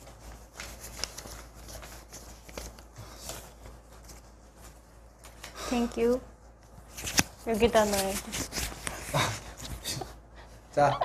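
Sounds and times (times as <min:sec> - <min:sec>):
paper banknotes rustling: 0:00.0 - 0:09.8.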